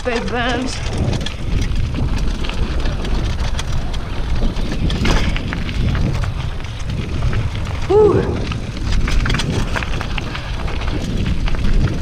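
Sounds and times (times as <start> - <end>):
bike clicks and rattles: 0.0 - 12.0
tyres rumbling on dirt: 0.0 - 12.0
wind buffeting microphone: 0.0 - 12.0.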